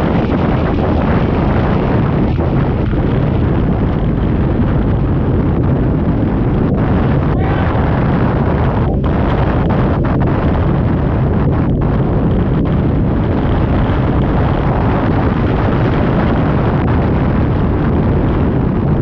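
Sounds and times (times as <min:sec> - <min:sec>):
powerboat engines running: 0:00.0 - 0:19.0
rush of wind and water: 0:00.0 - 0:19.0.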